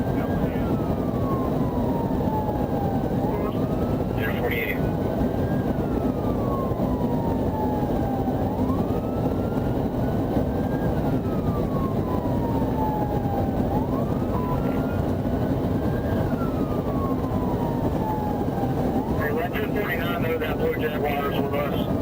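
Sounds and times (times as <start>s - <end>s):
emergency siren wailing: 0.0s - 22.0s.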